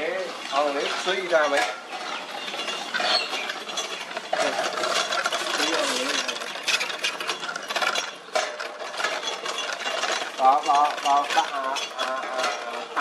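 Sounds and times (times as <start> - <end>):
pedal-driven gears rattling: 0.0 - 13.0.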